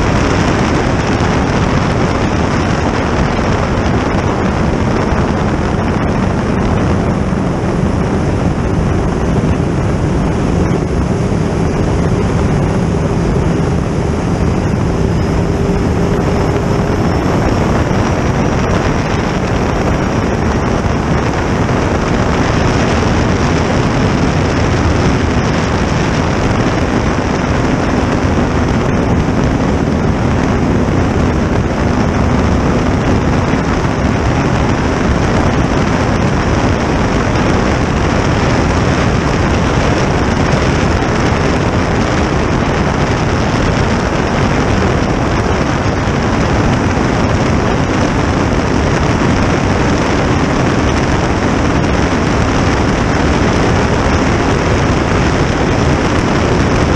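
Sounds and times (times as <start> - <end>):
gas turbine roaring: 0.0 - 56.9
water rushing: 0.0 - 56.9
wind: 0.0 - 56.9.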